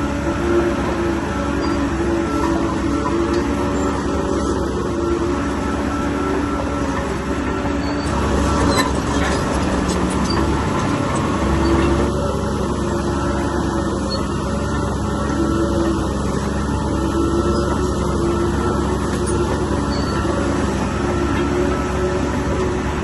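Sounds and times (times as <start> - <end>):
bulldozer diesel engine: 0.0 - 23.0
steel tracks clanking and squeaking: 0.0 - 23.0.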